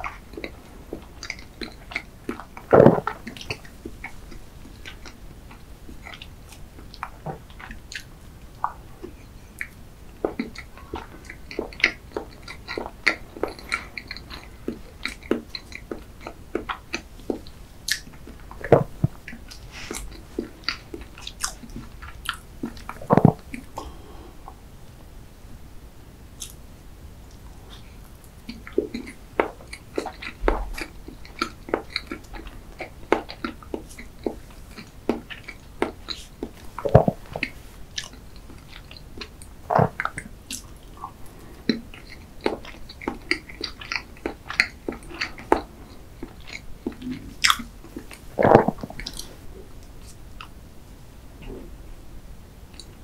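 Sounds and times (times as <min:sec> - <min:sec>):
person chewing cake: 0:00.0 - 0:24.7, 0:27.3 - 0:50.6.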